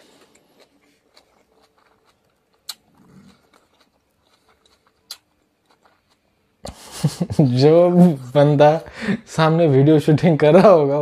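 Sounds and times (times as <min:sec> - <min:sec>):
faint chewing and mouth sounds: 0:00.0 - 0:08.8.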